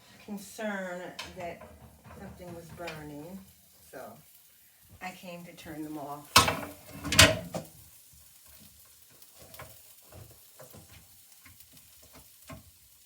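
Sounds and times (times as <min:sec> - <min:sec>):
meat sizzling with crackles: 0:00.0 - 0:13.0.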